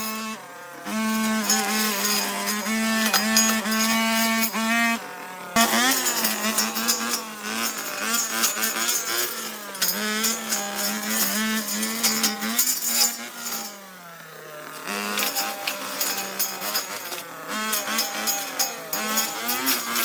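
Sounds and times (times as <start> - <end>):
small engine revving: 0.0 - 20.0.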